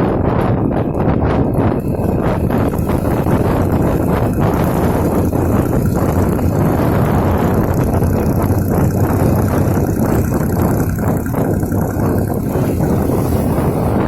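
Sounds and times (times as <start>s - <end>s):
motorcycle engine running: 0.0s - 14.0s
wind on microphone: 0.0s - 14.0s.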